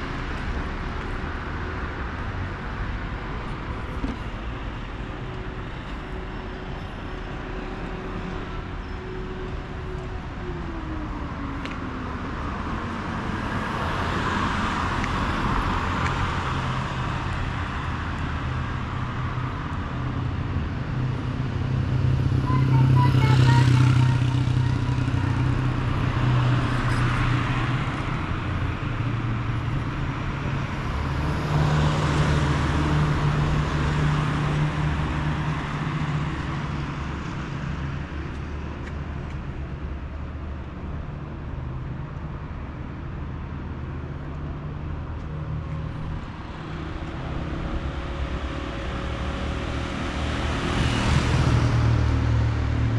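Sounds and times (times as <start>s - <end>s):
motor vehicles passing: 0.0s - 52.9s
steady engine hum: 0.0s - 52.9s.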